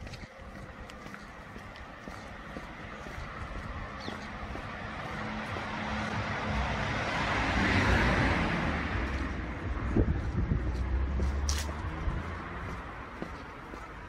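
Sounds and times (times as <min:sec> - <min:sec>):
car passing: 0:00.0 - 0:14.0.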